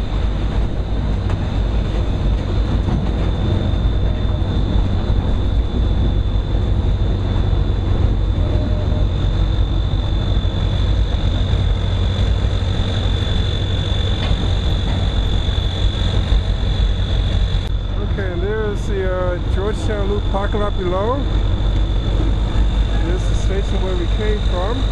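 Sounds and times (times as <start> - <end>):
train rumbling on track: 0.0 - 24.9.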